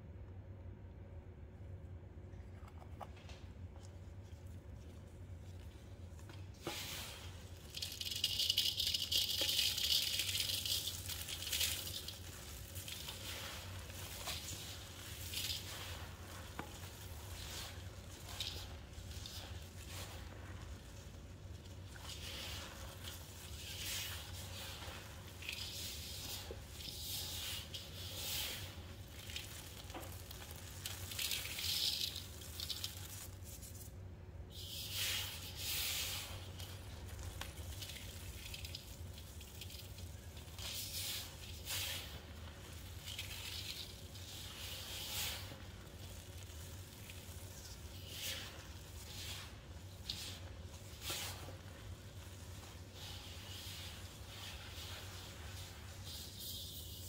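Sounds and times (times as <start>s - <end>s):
low steady hum: 0.0s - 57.0s
powder crunching and hissing: 6.4s - 33.9s, 34.5s - 57.0s.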